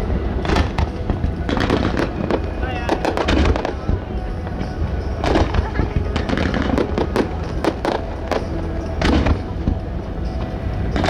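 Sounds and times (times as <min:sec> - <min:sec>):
fireworks bangs: 0:00.0 - 0:11.0
low rumble: 0:00.0 - 0:11.0
music playing: 0:00.0 - 0:11.0.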